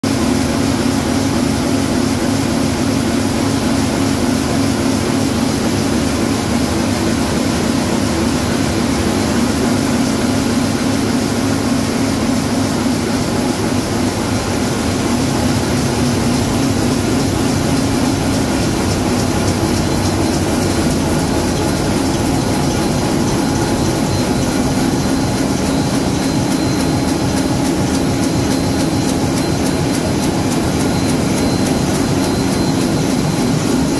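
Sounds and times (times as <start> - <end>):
printing press running: 0.1 - 33.9.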